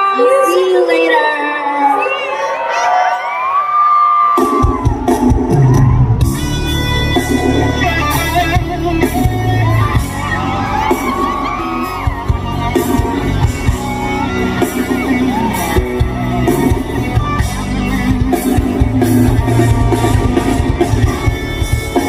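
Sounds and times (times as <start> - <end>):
crowd whooping and shouting: 0.0 - 22.0
live band music over pa: 4.2 - 22.0.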